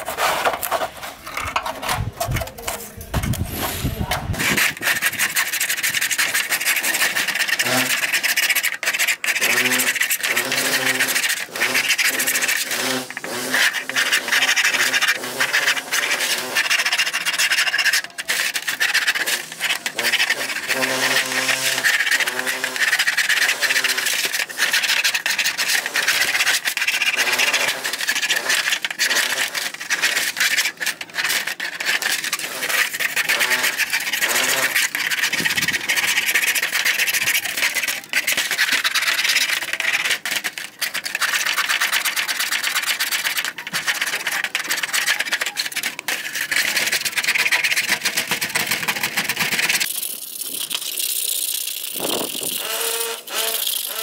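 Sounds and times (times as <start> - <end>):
metal scraper scraping plastic: 0.0 - 50.9, 52.0 - 54.0.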